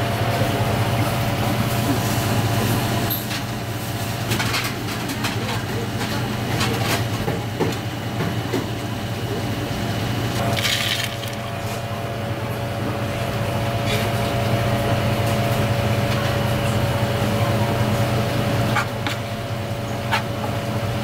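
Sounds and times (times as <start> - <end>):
kitchen background hum: 0.0 - 21.0.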